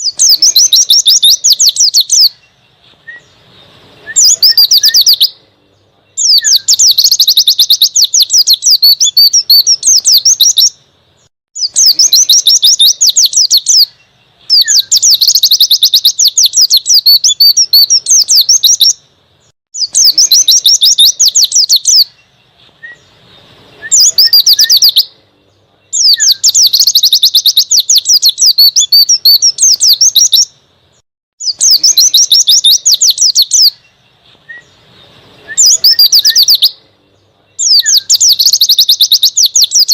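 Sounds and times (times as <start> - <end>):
bird twittering rapidly: 0.0 - 39.9.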